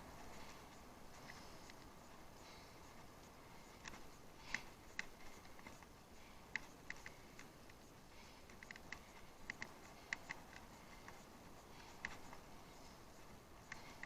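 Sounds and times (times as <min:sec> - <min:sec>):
low hiss: 0:00.0 - 0:14.0
bicycle clicking: 0:00.3 - 0:14.0.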